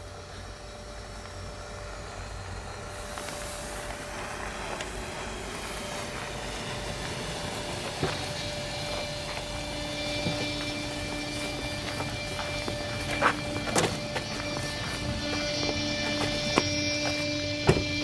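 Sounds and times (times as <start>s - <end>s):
car engine and tyre noise: 0.0s - 18.0s.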